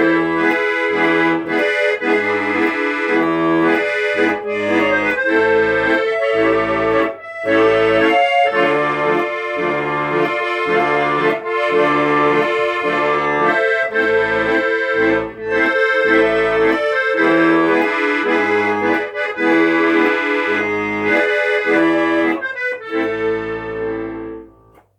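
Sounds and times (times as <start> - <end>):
instrumental music with pulsing bass: 0.0 - 24.9.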